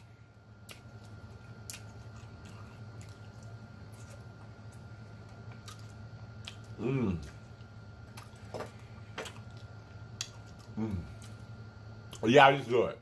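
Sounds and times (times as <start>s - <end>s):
person chewing food: 0.0s - 12.2s
steady low hum: 0.0s - 13.0s.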